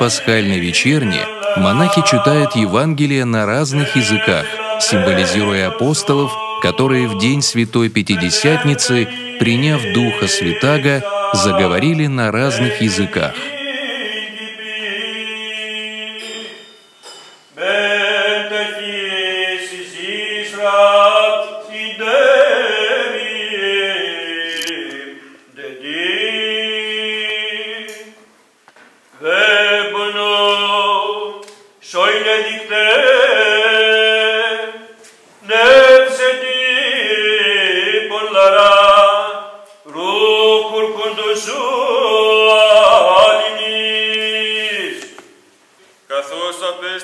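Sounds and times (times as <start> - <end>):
man chanting: 0.0 - 16.1, 17.6 - 27.8, 29.2 - 45.1.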